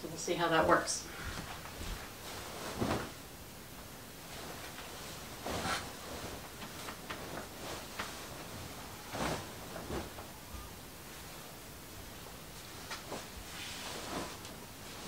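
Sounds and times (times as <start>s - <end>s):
fabric rustling and swishing: 1.2s - 15.0s.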